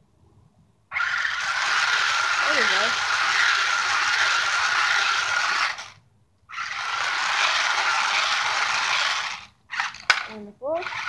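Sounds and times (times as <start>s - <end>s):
toy car motor whirring: 0.9s - 11.0s.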